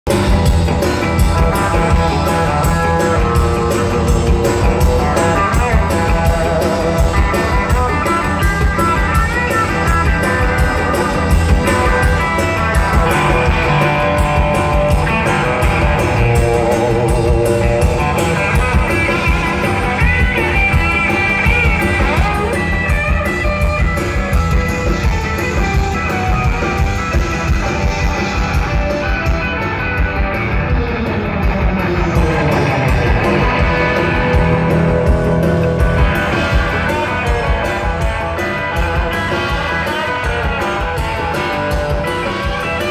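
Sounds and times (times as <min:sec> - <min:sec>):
electric guitar: 0:00.0 - 0:42.9
rockabilly band playing live: 0:00.0 - 0:42.9.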